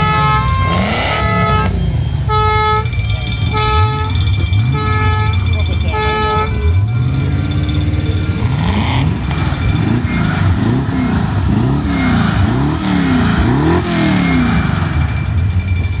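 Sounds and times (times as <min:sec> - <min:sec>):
engines idling and revving: 0:00.0 - 0:16.0.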